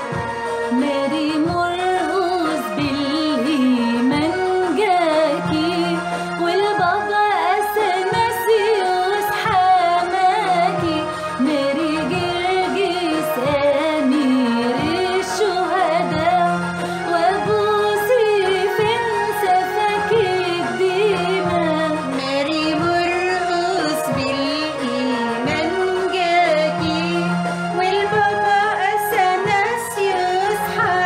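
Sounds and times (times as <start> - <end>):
instrumental backing with beat: 0.0 - 31.0
women singing a hymn: 0.7 - 31.0.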